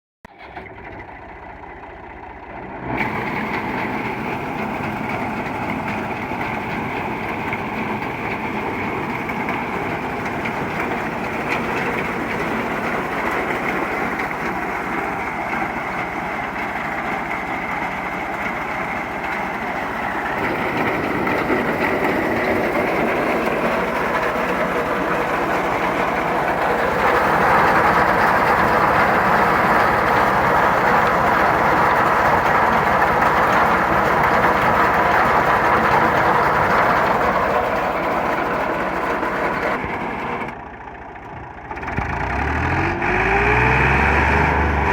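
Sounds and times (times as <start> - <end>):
tractor diesel engine running: 0.2 - 44.9.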